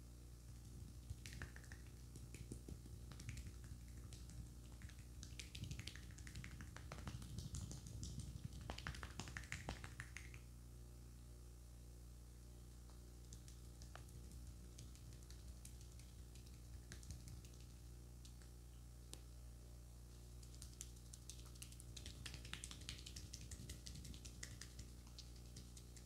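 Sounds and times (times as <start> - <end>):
faint steady hum: 0.0 - 26.0
hands massaging cream on face: 0.6 - 10.5, 12.8 - 18.6, 20.4 - 26.0.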